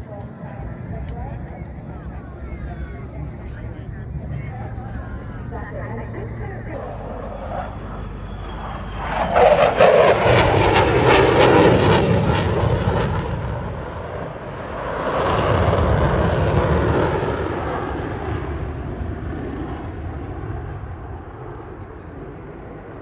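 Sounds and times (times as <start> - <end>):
fighter jet passing: 3.0 - 23.0.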